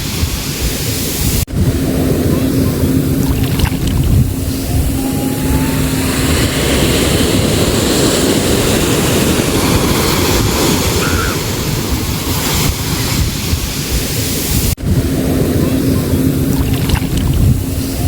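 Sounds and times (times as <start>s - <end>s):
sea waves breaking: 0.0s - 18.0s.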